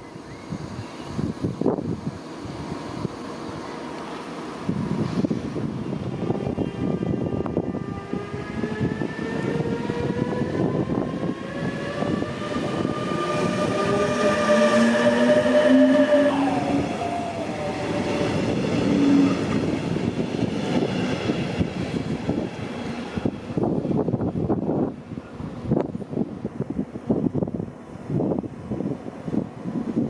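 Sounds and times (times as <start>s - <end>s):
train electric whine: 0.0s - 24.9s.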